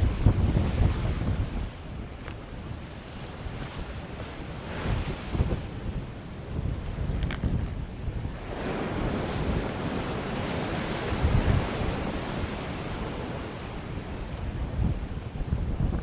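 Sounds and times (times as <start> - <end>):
ocean surf rushing on shore: 0.0 - 16.0
wind buffeting microphone: 0.0 - 16.0.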